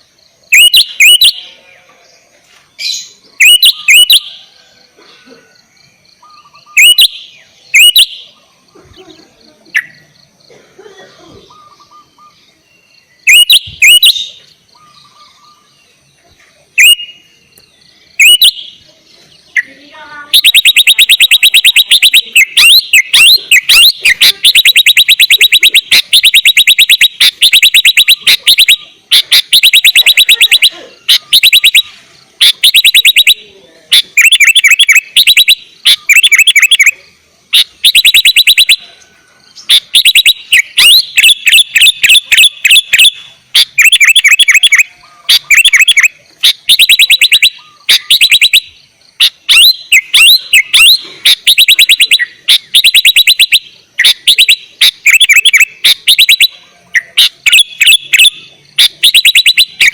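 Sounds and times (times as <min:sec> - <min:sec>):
bulbul singing fast chirps: 0:00.0 - 0:04.6, 0:05.8 - 0:10.6, 0:11.4 - 0:59.9.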